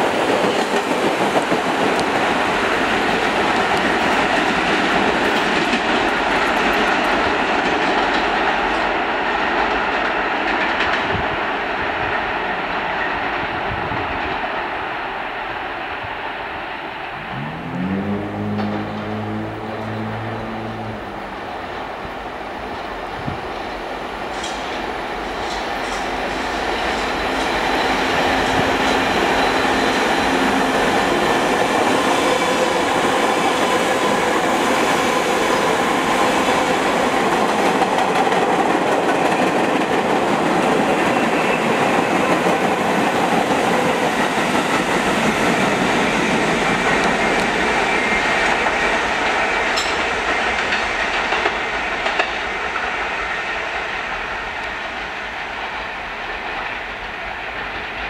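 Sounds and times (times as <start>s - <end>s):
sharp clicks of train: 0.0s - 15.6s, 22.6s - 58.0s
subway train passing: 0.0s - 58.0s.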